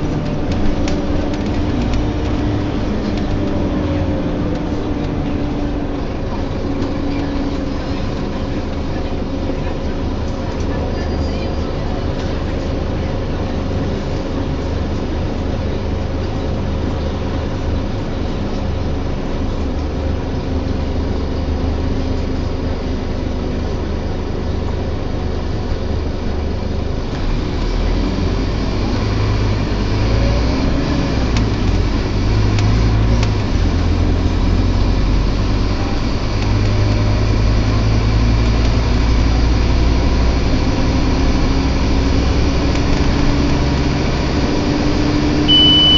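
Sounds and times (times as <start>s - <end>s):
bus engine drone: 0.0s - 45.9s
bus groaning: 0.0s - 45.9s
road noise: 0.0s - 45.9s.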